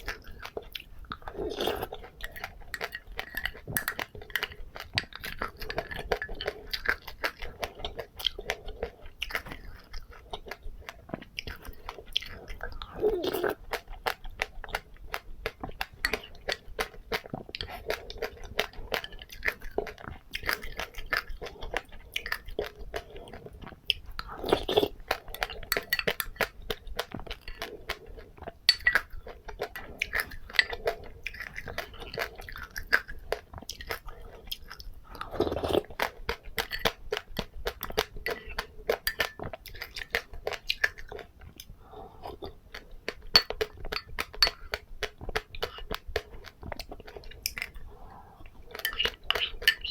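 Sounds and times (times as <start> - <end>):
crunching and chewing seeds: 0.0 - 49.9
fuller mouth sounds: 0.0 - 49.9.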